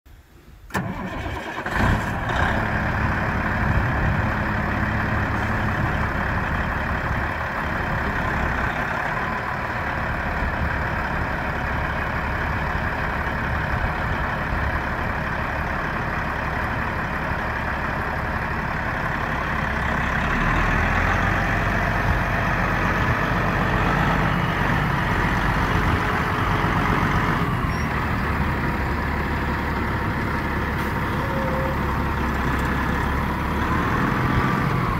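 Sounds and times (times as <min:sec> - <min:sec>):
diesel truck engine idling: 0:00.7 - 0:34.9.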